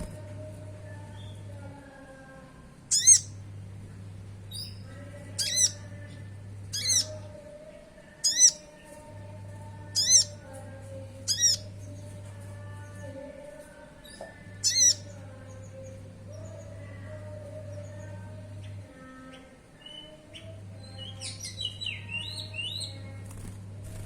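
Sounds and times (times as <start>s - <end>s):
faint steady low hum: 0.0s - 24.0s.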